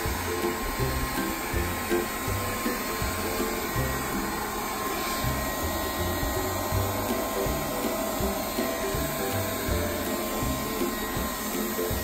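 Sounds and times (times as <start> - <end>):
background music with beat: 0.0 - 12.0
leaf blower whirring: 0.0 - 12.0.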